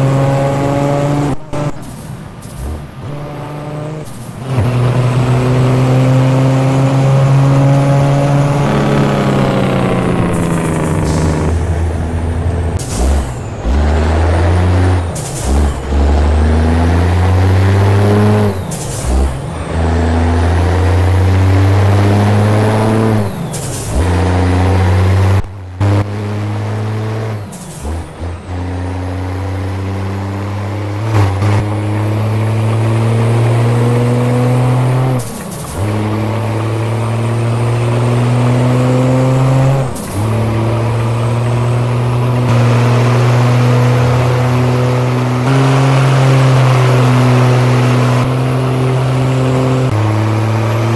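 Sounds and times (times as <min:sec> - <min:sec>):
diesel truck engine accelerating: 0:00.0 - 0:50.9.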